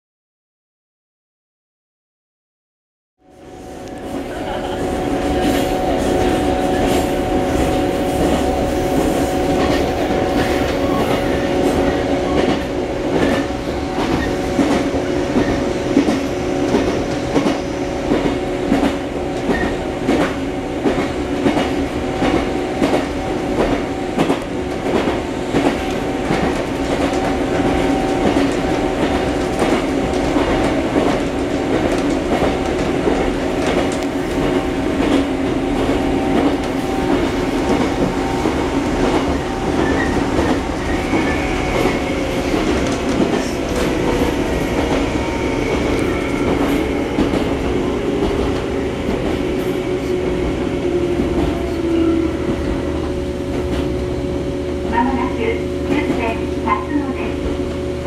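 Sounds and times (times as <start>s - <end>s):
train running gear hum: 3.2s - 58.0s.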